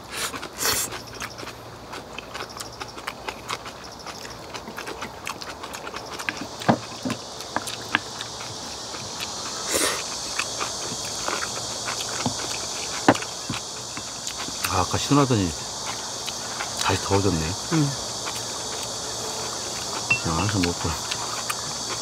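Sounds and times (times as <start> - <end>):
chewing with wet clicks and crunches: 0.1 - 22.0.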